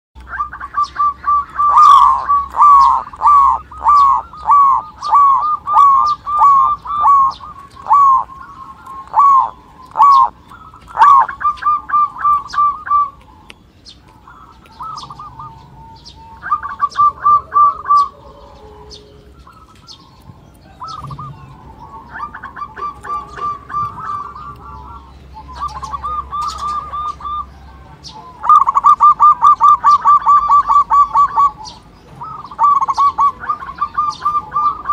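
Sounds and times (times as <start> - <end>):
dove cooing: 0.2 - 34.9.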